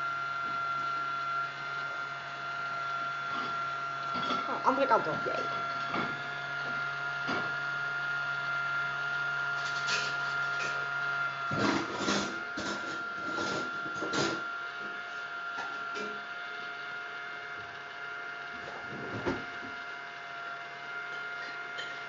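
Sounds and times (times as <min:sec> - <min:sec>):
mini vacuum cleaner whining: 0:00.0 - 0:22.0.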